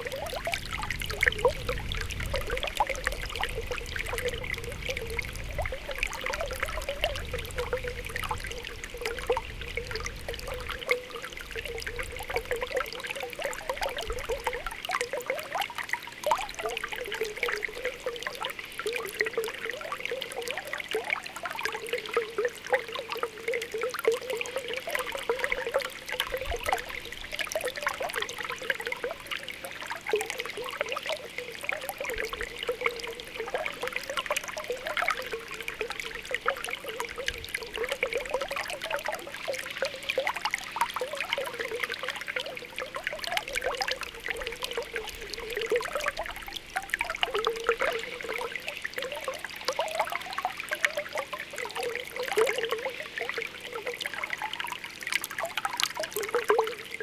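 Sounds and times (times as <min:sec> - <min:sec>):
spring water bubbling: 0:00.0 - 0:57.0.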